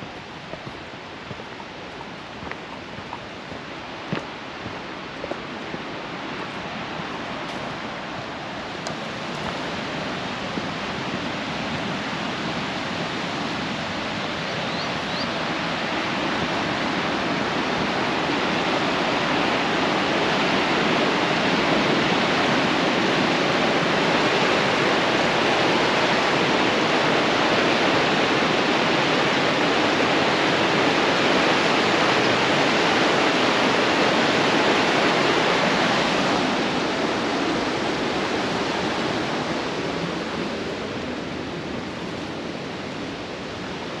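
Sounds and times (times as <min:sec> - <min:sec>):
river whitewater rushing: 0:00.0 - 0:44.0.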